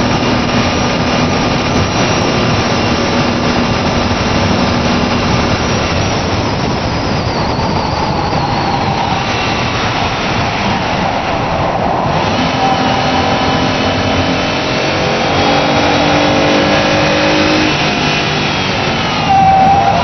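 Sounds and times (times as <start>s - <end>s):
car engine at high revs: 0.0s - 20.0s
wind and road noise: 0.0s - 20.0s.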